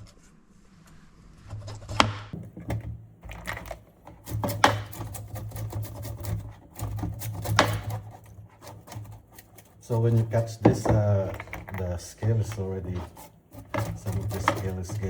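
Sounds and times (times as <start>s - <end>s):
knife scraping fish scales: 2.3s - 15.0s.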